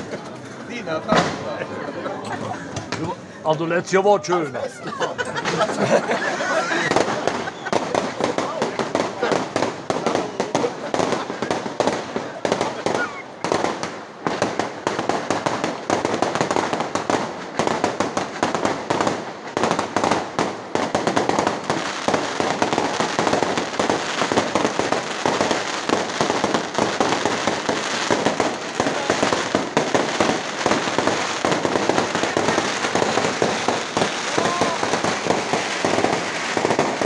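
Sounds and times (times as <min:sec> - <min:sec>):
fireworks bangs and crackling: 0:00.0 - 0:03.5, 0:05.3 - 0:37.0.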